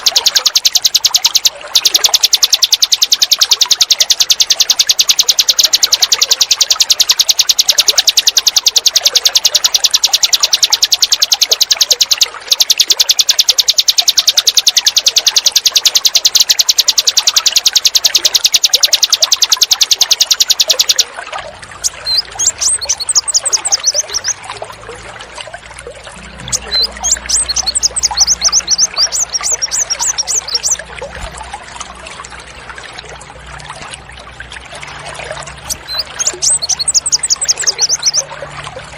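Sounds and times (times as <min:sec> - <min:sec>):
bird chirps and whistles: 0:00.0 - 0:21.1, 0:21.8 - 0:24.4, 0:26.4 - 0:31.4, 0:35.6 - 0:38.3
songbird rapid high call: 0:00.0 - 0:21.1, 0:21.8 - 0:24.4, 0:26.3 - 0:31.4, 0:35.6 - 0:38.3
running water: 0:00.0 - 0:38.9.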